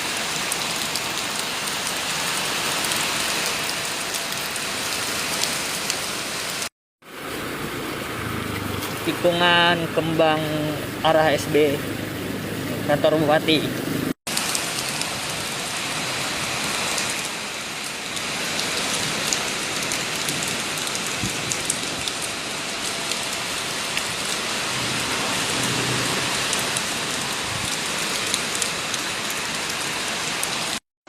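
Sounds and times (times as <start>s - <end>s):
raindrops pattering on surfaces: 0.0s - 9.4s, 13.5s - 30.8s
heavy rain pouring: 0.0s - 30.8s.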